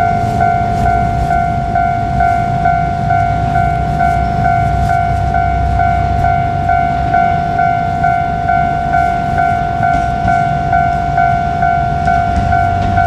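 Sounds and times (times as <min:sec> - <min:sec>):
level crossing alarm ringing: 0:00.0 - 0:13.0
passing train rumble: 0:00.0 - 0:13.0.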